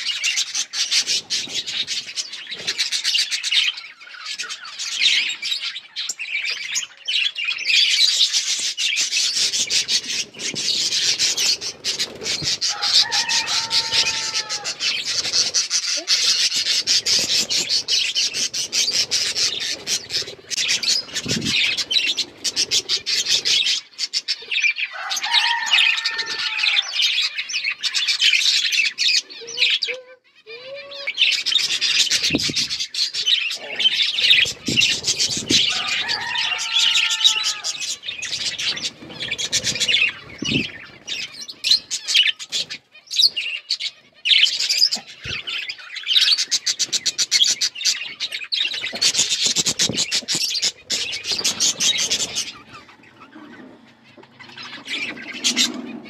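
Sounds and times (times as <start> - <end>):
budgerigars chattering and warbling: 0.0 - 30.0, 31.0 - 56.0.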